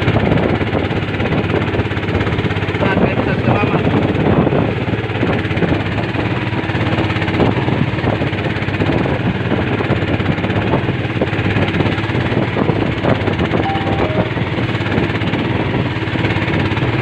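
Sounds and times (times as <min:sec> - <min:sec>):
motorboat engine running: 0:00.0 - 0:13.8.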